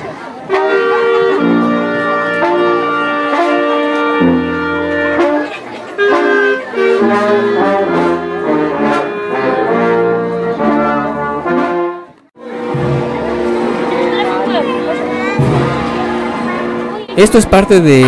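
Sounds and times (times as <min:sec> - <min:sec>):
brass band playing: 0:00.4 - 0:18.0.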